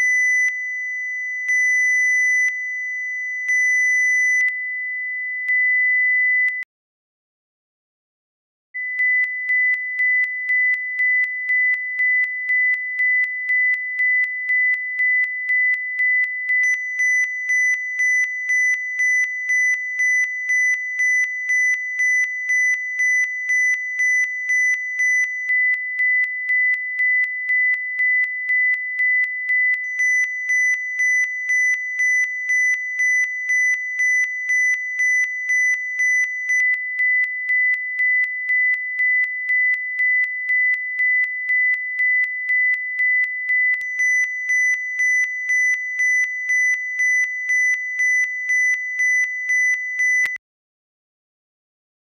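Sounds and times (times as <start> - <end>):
sine wave test tone: 0.0 - 6.7, 8.8 - 50.4.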